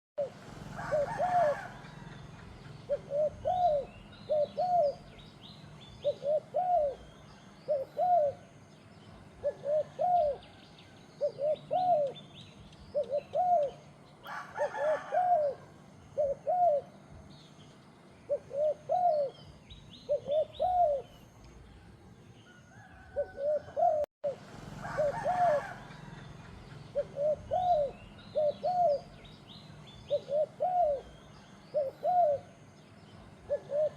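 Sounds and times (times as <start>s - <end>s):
doves cooing: 0.2s - 17.2s, 18.2s - 33.9s
small birds chirping faintly: 0.2s - 33.9s.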